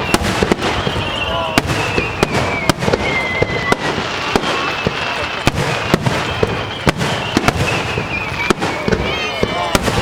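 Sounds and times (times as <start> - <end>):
firework whistle: 0.0 - 10.0
fireworks bangs and crackles: 0.0 - 10.0.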